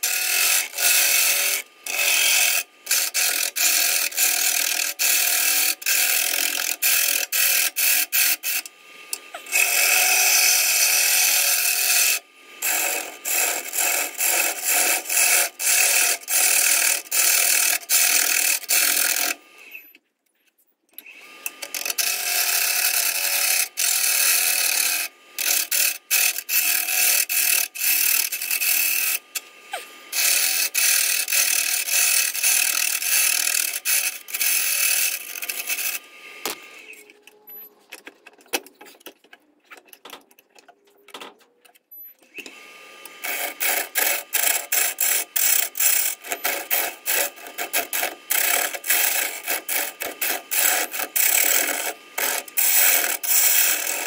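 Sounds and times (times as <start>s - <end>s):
gouge cutting wood with clicks: 0.0s - 19.4s, 21.0s - 36.7s, 42.3s - 54.0s.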